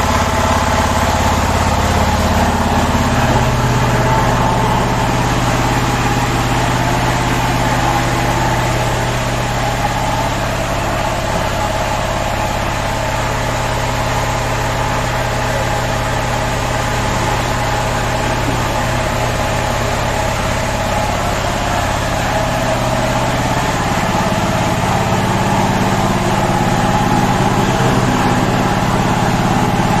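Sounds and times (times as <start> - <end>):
hydraulic press motor humming: 0.0 - 30.0.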